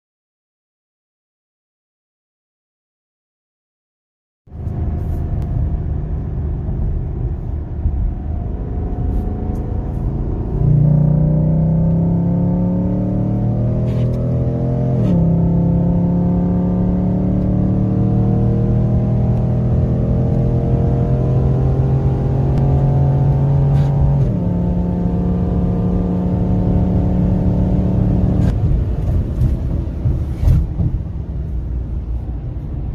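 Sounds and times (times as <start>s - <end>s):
car engine accelerating in cabin: 4.5s - 32.9s.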